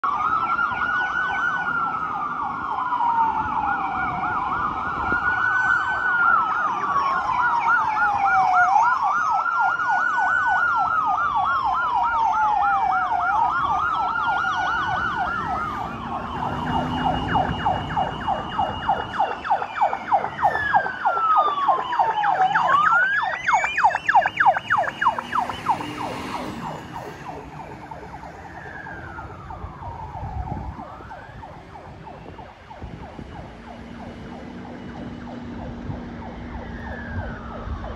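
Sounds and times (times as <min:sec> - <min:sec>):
fire truck sirens wailing: 0:00.0 - 0:37.9
siren yelp: 0:00.0 - 0:37.9
truck engine rumble: 0:00.1 - 0:37.9.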